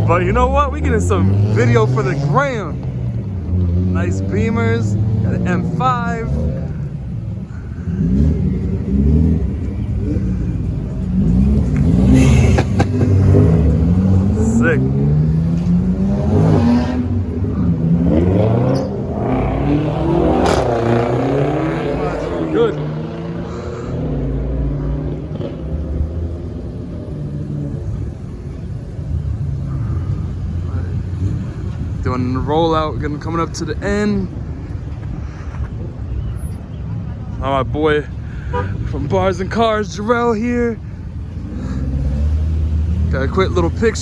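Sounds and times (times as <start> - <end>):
car engine revving: 0.0 - 35.3, 38.5 - 44.0.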